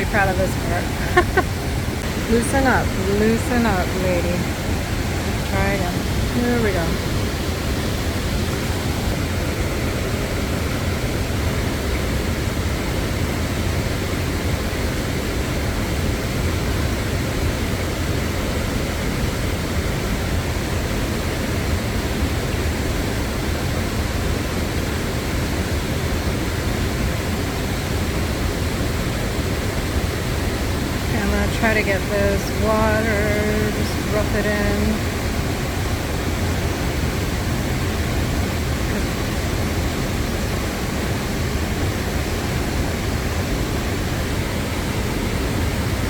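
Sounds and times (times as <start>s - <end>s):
river and waterfall rushing: 0.0s - 46.0s.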